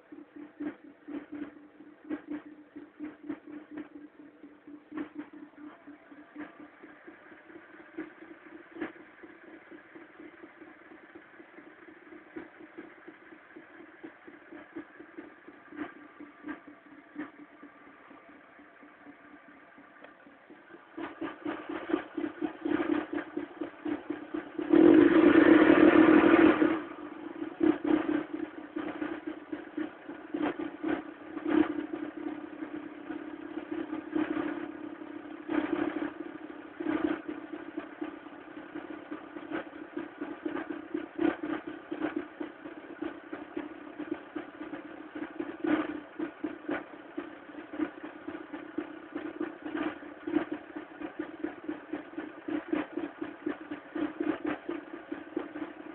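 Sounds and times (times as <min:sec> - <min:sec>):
car engine idling unevenly: 0:00.0 - 0:55.9.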